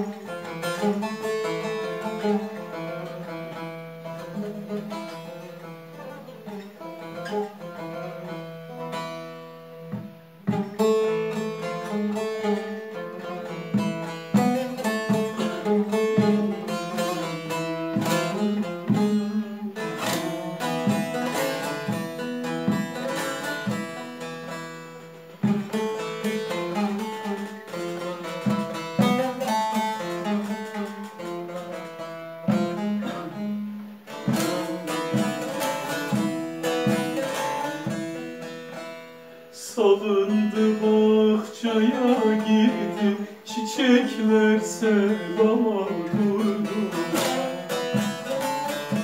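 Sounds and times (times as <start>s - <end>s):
plucked lute melody: 0.0s - 49.0s.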